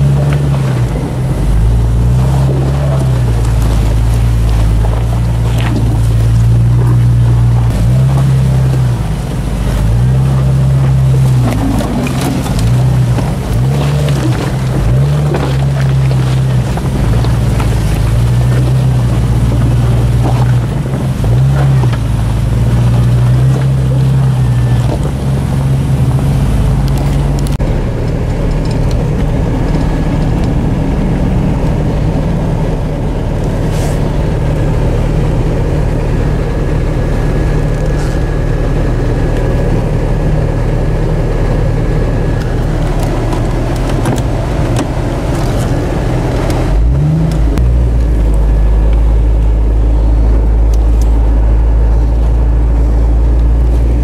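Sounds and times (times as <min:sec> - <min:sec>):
car engine pulling under load: 0:00.0 - 0:54.0
tyres crunching on rock and gravel: 0:00.0 - 0:54.0.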